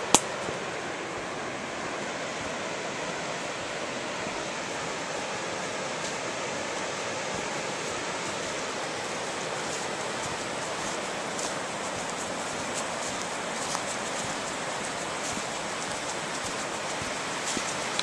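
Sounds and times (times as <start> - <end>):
river water rushing: 0.0 - 18.0
dry leaves crackling underfoot: 2.1 - 18.0.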